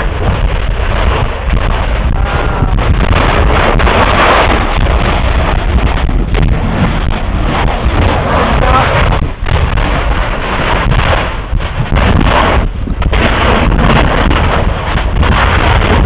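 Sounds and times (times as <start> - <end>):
lava exploding into sea: 0.0 - 16.0
wind rumbling on microphone: 0.0 - 16.0.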